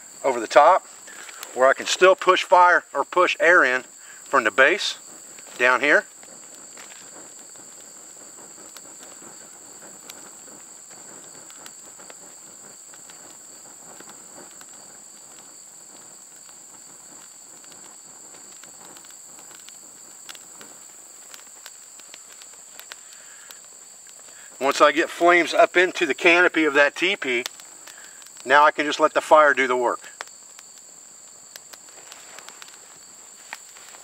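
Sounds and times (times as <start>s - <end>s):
insect chorus: 0.0s - 34.0s
twig fire crackling: 0.0s - 34.0s.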